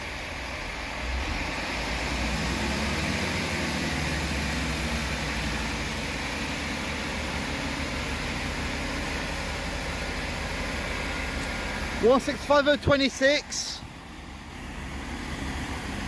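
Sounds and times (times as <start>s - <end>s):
train engine drone: 0.0s - 16.0s.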